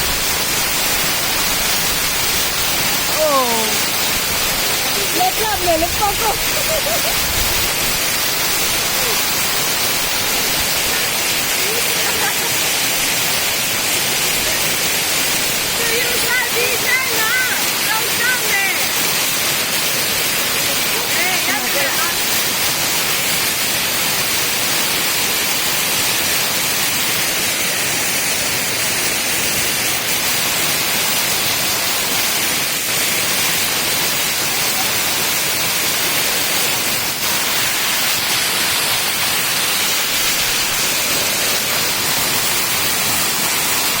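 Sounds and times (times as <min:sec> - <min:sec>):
waterfall roaring: 0:00.0 - 0:44.0.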